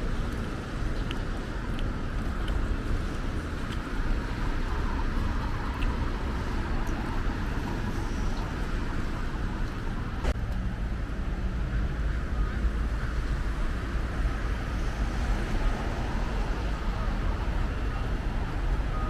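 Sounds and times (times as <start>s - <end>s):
road traffic rumble: 0.0s - 19.0s
wind noise: 0.0s - 19.0s.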